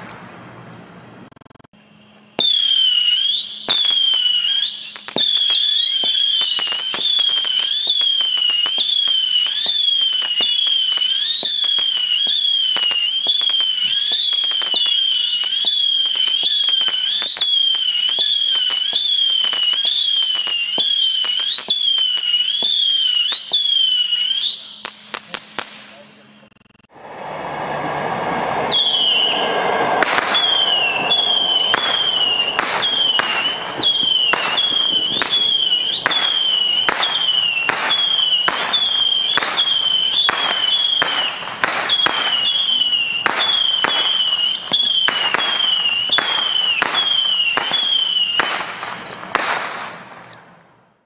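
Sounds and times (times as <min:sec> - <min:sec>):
firework missiles whistling: 0:00.0 - 0:51.0
firework bursts crackling: 0:01.2 - 0:50.4.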